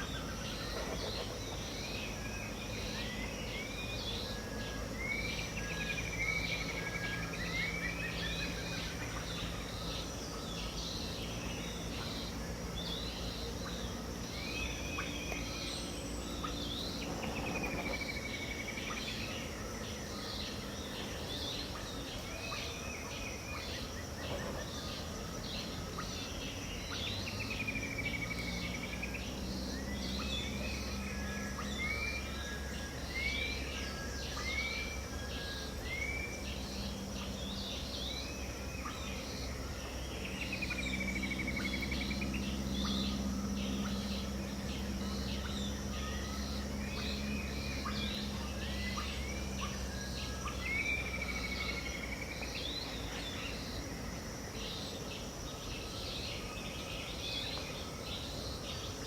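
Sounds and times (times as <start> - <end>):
birds calling and whistling: 0.0 - 59.0
high insect hum: 0.0 - 59.0.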